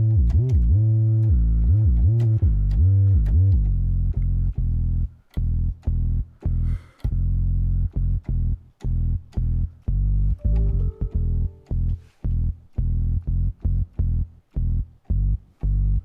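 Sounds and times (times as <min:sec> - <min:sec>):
bass-heavy synthesizer phrase: 0:00.0 - 0:16.0.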